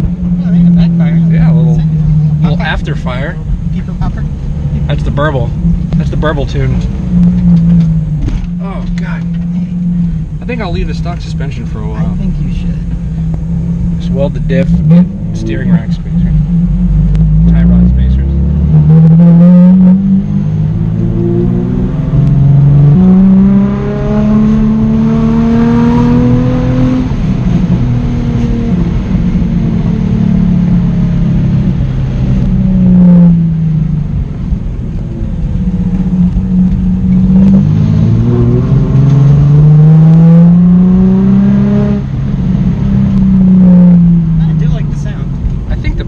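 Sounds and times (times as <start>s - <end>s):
car engine accelerating hard: 0.0s - 46.0s.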